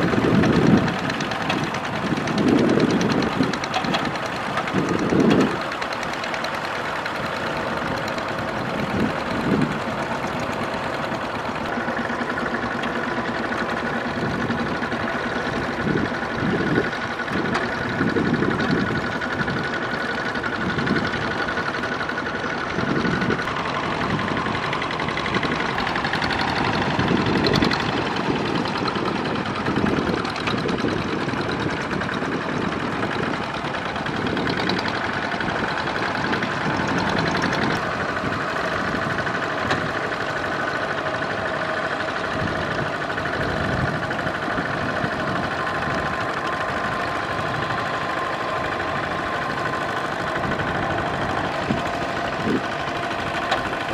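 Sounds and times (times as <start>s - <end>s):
diesel engine running under load: 0.0s - 53.9s
wheels churning through mud and water: 0.0s - 53.9s.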